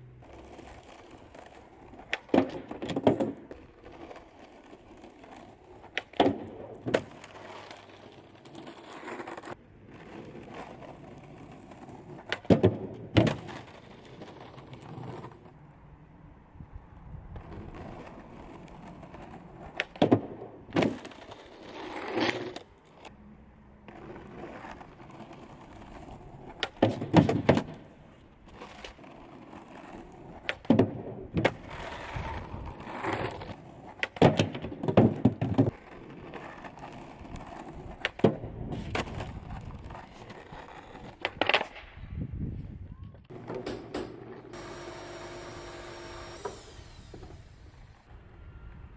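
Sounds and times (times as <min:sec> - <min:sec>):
skateboard wheels rolling: 0:00.0 - 0:48.9
skateboard clacks and slaps: 0:00.2 - 0:15.6, 0:17.4 - 0:23.1, 0:23.9 - 0:42.0, 0:43.1 - 0:44.6.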